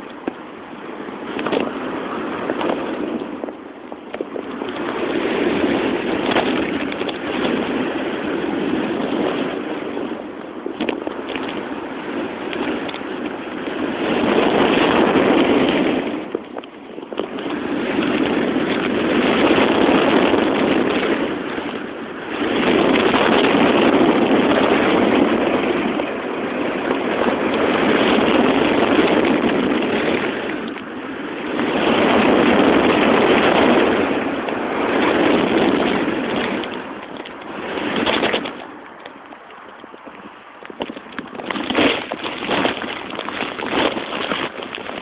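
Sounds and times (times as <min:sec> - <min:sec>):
wind rushing over microphone: 0:00.0 - 0:45.0.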